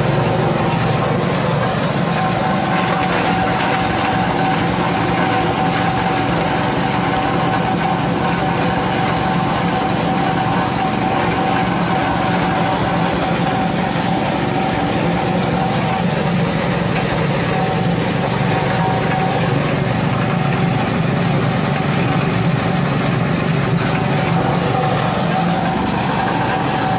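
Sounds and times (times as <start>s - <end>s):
grinder petrol engine running: 0.0s - 26.9s
high machine whine: 0.0s - 26.9s.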